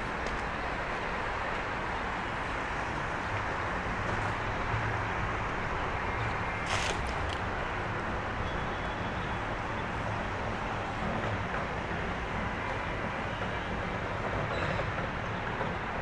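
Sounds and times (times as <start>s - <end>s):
city traffic hum: 0.0s - 16.0s.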